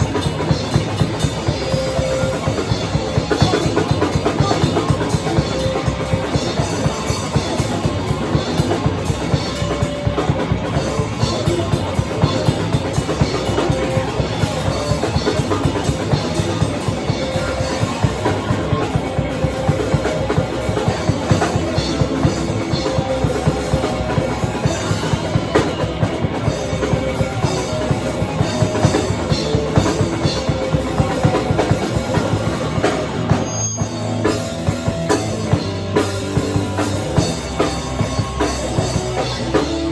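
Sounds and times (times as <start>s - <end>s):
fast dense drumming: 0.0s - 39.9s
live rock band playing: 0.0s - 39.9s.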